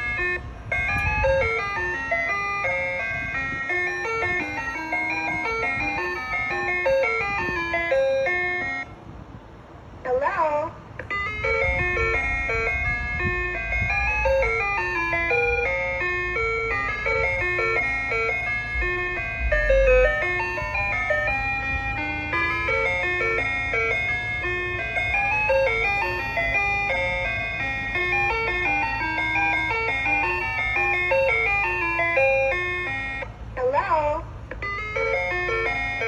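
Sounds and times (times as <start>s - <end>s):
ice cream truck jingle: 0.0s - 36.0s.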